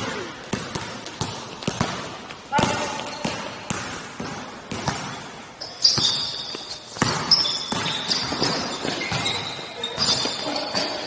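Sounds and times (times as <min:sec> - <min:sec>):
basketball bouncing on court floor: 0:00.0 - 0:11.0
sneakers squeaking: 0:00.0 - 0:11.0.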